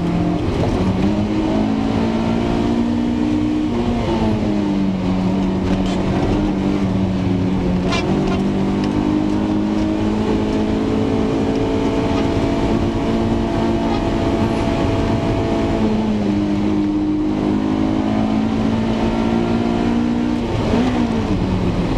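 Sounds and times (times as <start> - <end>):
car engine running: 0.0 - 21.9.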